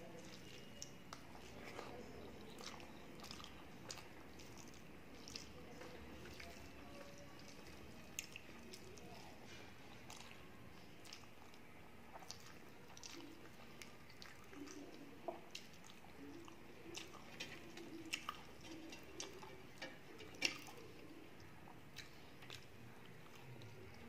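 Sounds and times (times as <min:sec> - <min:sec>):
chewing with mouth clicks: 0:00.0 - 0:24.0.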